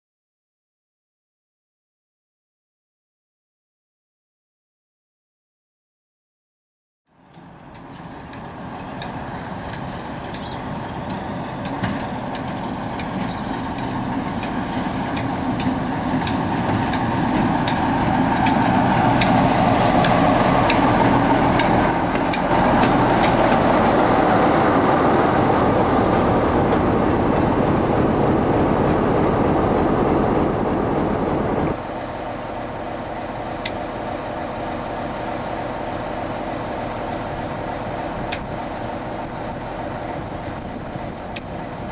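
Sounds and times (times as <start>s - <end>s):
diesel locomotive engine running: 7.1s - 41.9s.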